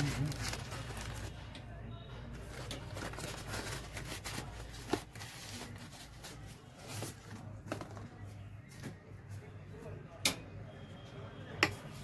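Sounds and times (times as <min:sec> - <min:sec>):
rustling handling noises: 0:00.0 - 0:09.9.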